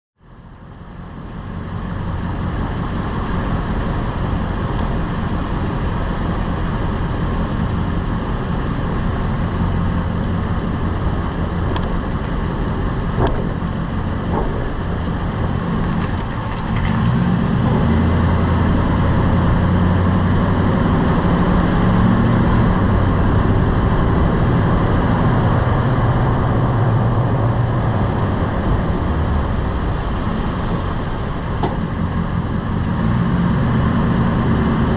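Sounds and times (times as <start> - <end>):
truck road and drivetrain noise: 0.2 - 34.9.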